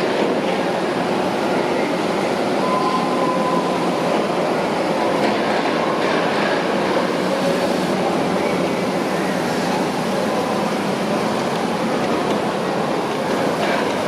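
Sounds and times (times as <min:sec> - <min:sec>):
heavy construction machinery din: 0:00.0 - 0:14.0.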